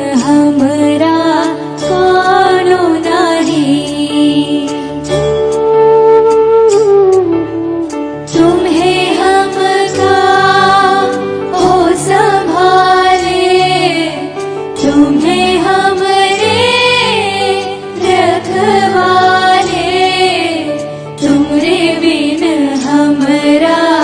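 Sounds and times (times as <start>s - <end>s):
woman singing devotional song: 0.0s - 5.0s, 8.3s - 24.0s
instrumental accompaniment: 0.0s - 24.0s.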